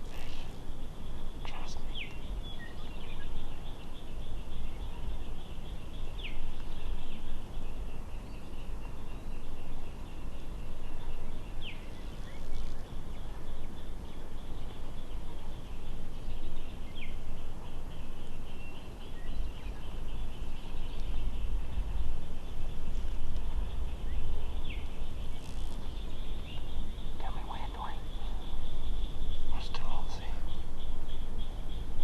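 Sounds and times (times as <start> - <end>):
songbirds twittering: 0.0 - 32.0
steady low rumble: 0.0 - 32.0.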